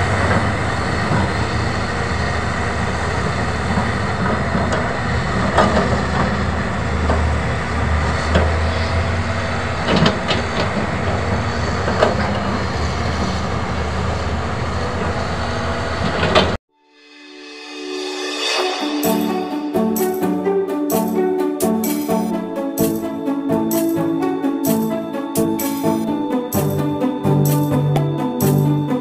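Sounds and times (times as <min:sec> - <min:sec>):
excavator diesel engine: 0:00.0 - 0:16.6, 0:19.0 - 0:29.0.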